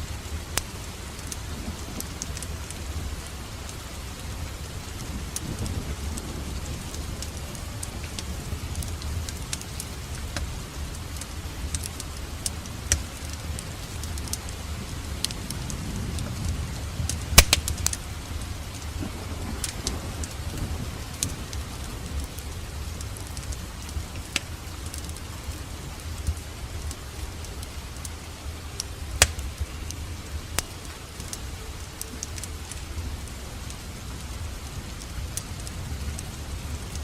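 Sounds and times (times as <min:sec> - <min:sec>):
fire crackles and pops: 0:00.0 - 0:37.0
low rumble of flames: 0:00.0 - 0:37.0.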